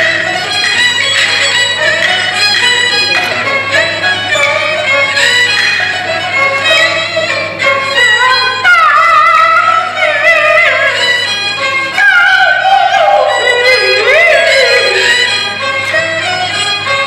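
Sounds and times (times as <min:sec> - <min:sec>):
chinese fiddle melody: 0:00.0 - 0:17.0.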